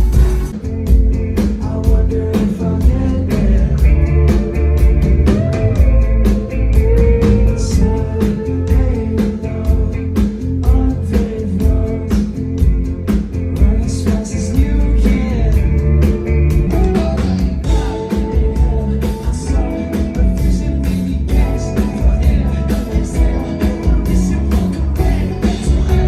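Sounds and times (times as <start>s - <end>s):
rock music with singing: 0.0s - 26.0s.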